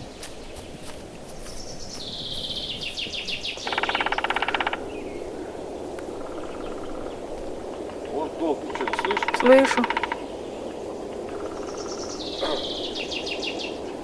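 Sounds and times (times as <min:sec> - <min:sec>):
steady background hiss: 0:00.0 - 0:14.0
woodpecker drumming on tree: 0:02.2 - 0:13.9.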